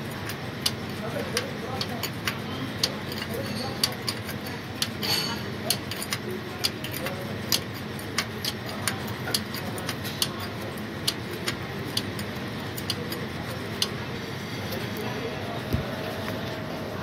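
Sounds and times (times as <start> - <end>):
steady low hum: 0.0 - 17.0
spanner metallic clicks: 0.1 - 14.0.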